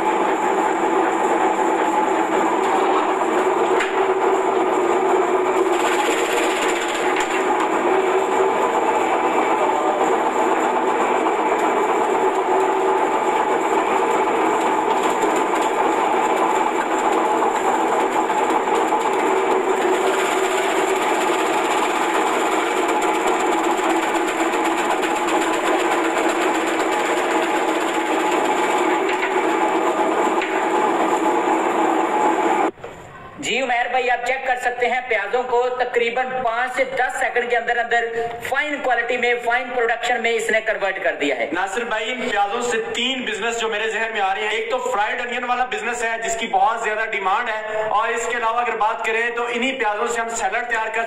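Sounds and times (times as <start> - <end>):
vegetable slicer machine running: 0.0 - 33.2, 35.8 - 51.0.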